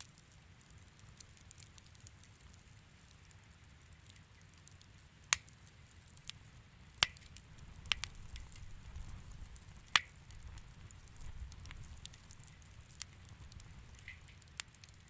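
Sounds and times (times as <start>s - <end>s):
fire popping sharply: 0.0s - 15.0s
wood fire crackling: 0.0s - 15.0s.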